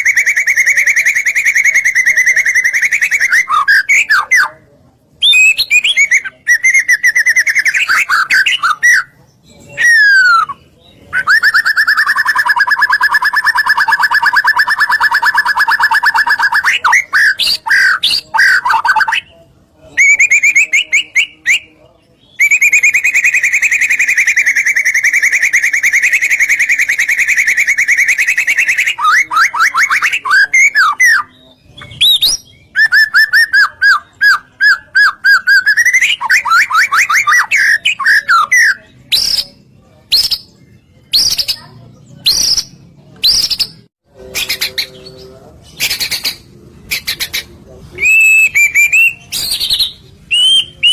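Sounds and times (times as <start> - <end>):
bird singing varied phrases: 0.0 - 50.9.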